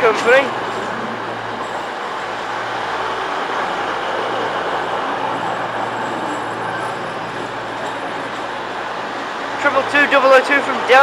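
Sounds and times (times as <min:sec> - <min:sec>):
train rumble and engine hum: 0:00.0 - 0:11.0.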